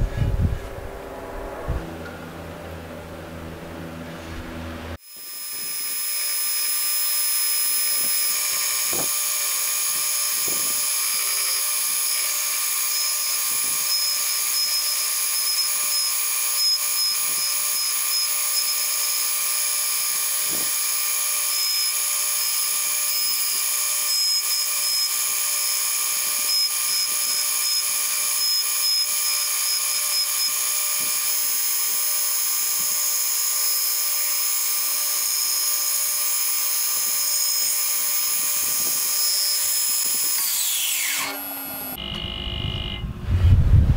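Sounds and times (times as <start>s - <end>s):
belt grinder whining: 4.9s - 43.1s.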